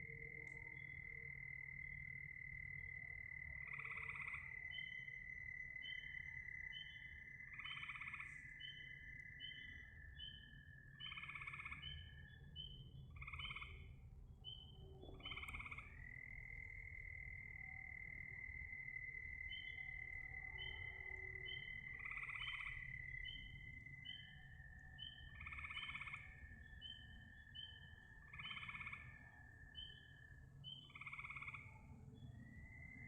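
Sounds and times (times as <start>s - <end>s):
frogs chirping: 0.0s - 33.0s
frogs croaking: 0.0s - 33.0s
frogs trilling: 0.0s - 33.0s.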